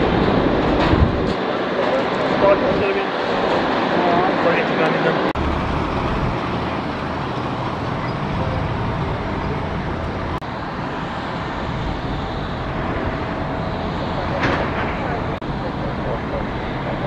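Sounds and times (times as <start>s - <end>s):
jet engines at taxi power: 0.0s - 17.0s.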